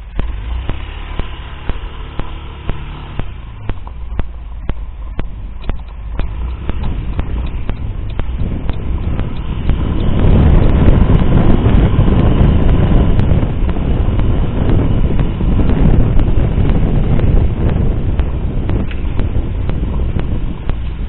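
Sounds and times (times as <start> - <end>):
faint regular clicks: 0.0 - 21.0
rushing rumbling hiss: 0.0 - 21.0.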